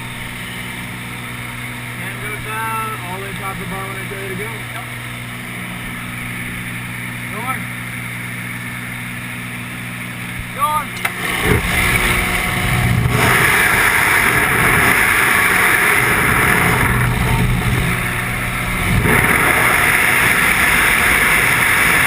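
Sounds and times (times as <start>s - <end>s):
small plane engine droning: 0.0s - 22.0s.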